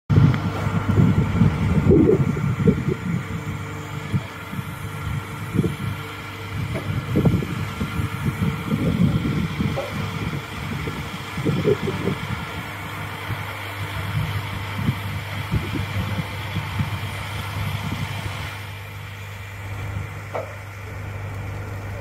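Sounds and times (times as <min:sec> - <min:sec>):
diesel engine running: 0:00.1 - 0:22.0
low rumbles: 0:00.1 - 0:22.0.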